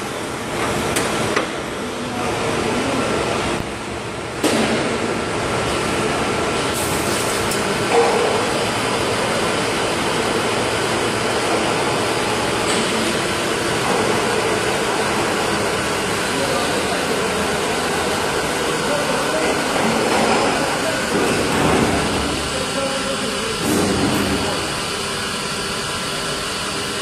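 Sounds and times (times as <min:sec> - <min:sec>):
injection moulding machine running: 0:00.0 - 0:27.0.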